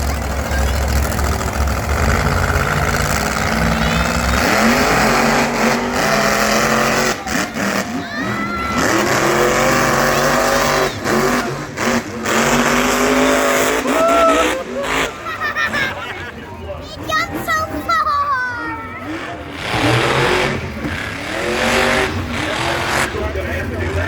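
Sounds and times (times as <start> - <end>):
truck engines revving: 0.0 - 24.0.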